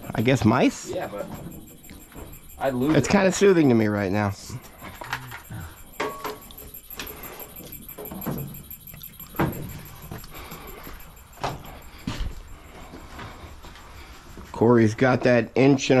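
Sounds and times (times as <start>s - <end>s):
high-pitched electronic pulsing: 0.0s - 15.9s.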